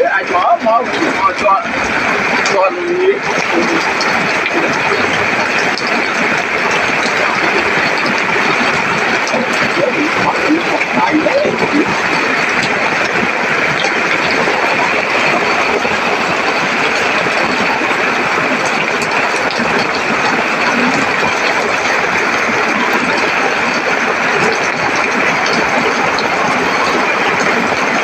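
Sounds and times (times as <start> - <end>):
rain falling steadily: 0.0 - 28.0.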